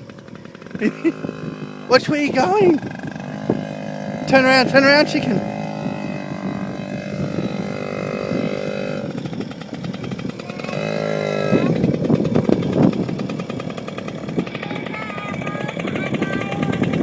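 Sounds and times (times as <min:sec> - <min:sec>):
two-stroke motorbike engine: 0:00.0 - 0:17.0.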